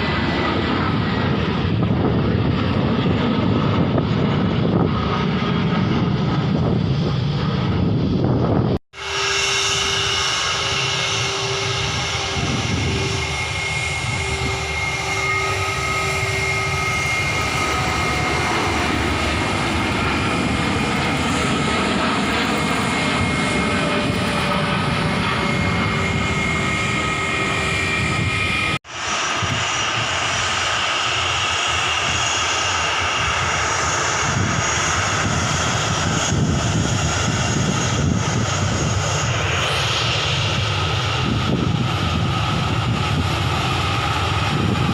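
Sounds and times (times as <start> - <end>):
airliner engines running: 0.0 - 44.9.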